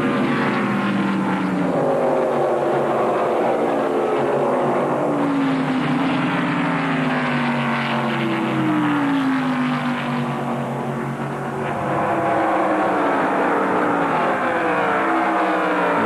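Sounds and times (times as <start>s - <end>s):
race cars passing at speed: 0.0s - 16.0s.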